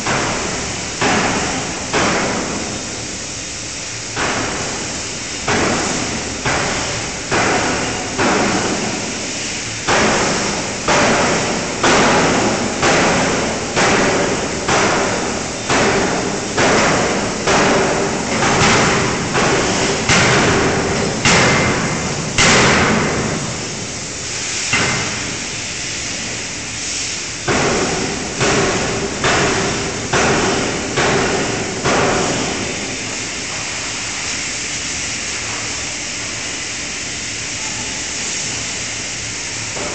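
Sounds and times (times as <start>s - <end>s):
steady machine hum and hiss: 0.0s - 39.9s.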